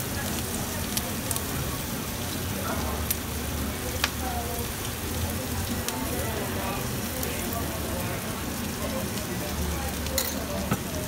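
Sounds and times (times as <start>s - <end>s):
meat sizzling on a hot plate: 0.0s - 11.0s.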